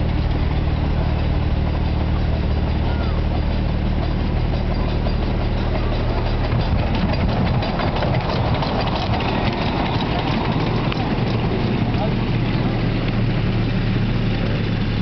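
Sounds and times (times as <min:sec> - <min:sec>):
miniature steam train passing: 0:00.0 - 0:15.0
wheels clattering on track: 0:00.0 - 0:15.0.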